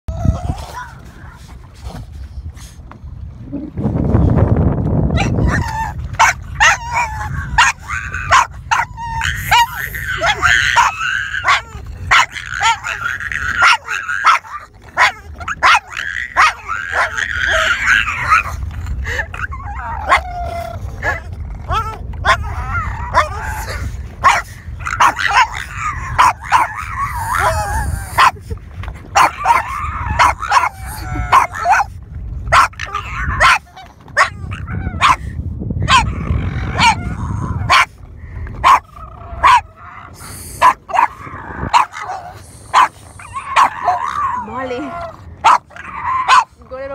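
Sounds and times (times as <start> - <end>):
dog whining cry: 0.1 - 1.4, 5.1 - 28.4, 29.1 - 31.9, 32.5 - 37.9, 38.6 - 46.6
low rumble: 0.1 - 46.9
dogs yapping: 5.1 - 28.4, 29.1 - 35.2, 35.8 - 38.0, 38.6 - 46.6.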